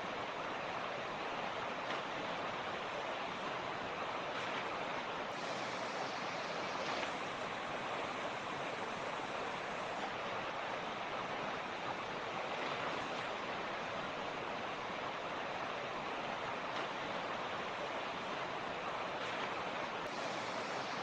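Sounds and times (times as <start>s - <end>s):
creek water rushing over stones: 0.0s - 21.0s.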